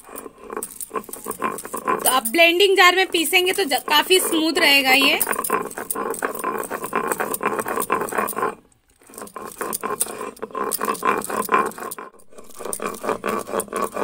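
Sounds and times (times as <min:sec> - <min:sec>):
stone scraping on stone: 0:00.0 - 0:14.0.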